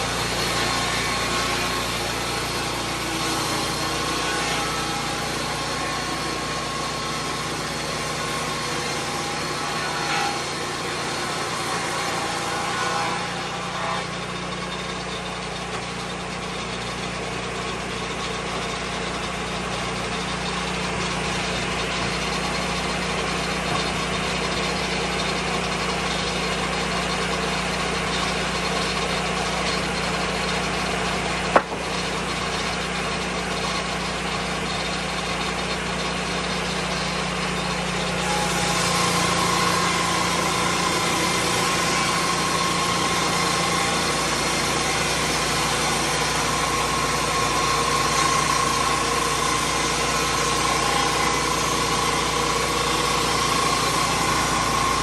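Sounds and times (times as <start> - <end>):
sawmill engine and blade drone: 0.0 - 55.0.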